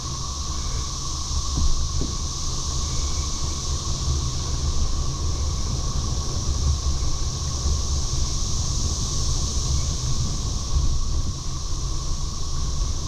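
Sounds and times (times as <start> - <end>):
cicada chorus buzzing: 0.0 - 13.0
wind buffeting microphone: 1.1 - 13.0.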